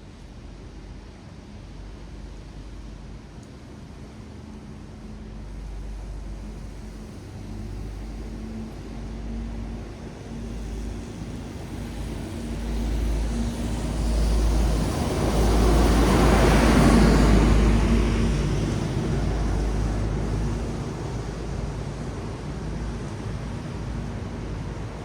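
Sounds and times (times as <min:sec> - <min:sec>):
low traffic rumble: 0:00.1 - 0:25.0
tyres hissing on wet road: 0:05.0 - 0:25.0.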